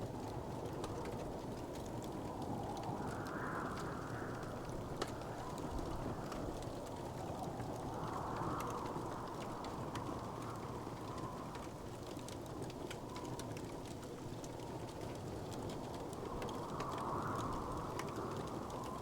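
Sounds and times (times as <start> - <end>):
low rushing fire noise: 0.0 - 19.0
wood fire crackling: 0.0 - 19.0.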